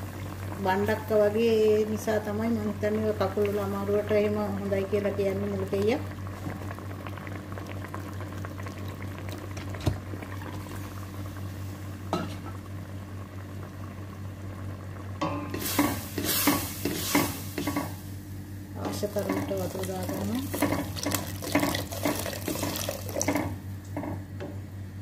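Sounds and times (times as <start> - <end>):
stew simmering in a pot: 0.0 - 24.6.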